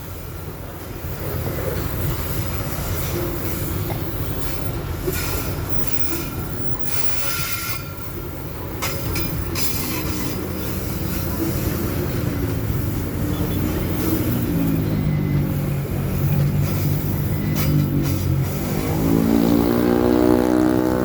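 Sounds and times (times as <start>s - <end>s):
train wheels rumbling on rails: 0.0s - 21.0s
rail clacks: 0.8s - 15.2s, 15.9s - 19.8s.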